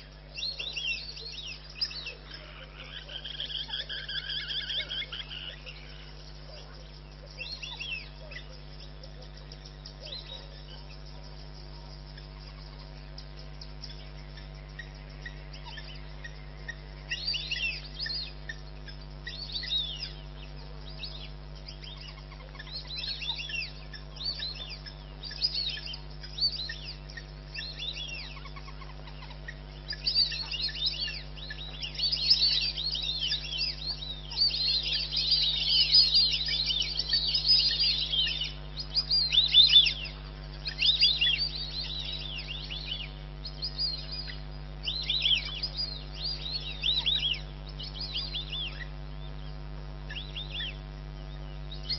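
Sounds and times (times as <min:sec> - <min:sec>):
birds chirping: 0:00.0 - 0:51.9
steady low hum: 0:00.0 - 0:51.9.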